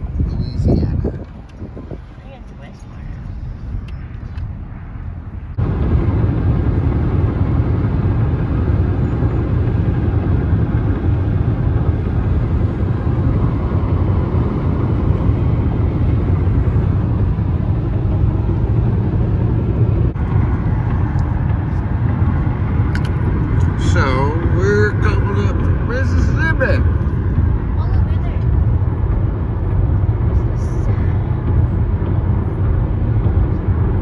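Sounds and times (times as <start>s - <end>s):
road and wind noise in car: 0.0s - 34.0s.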